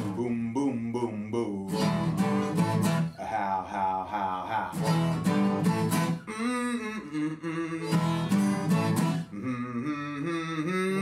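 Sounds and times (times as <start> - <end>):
song with strummed acoustic guitar: 0.0 - 11.0.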